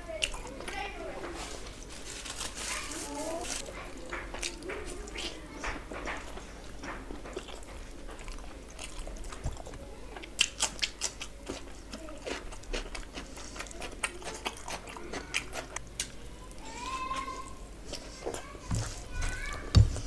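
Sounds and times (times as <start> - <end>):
chewing and biting food: 3.5 - 20.0.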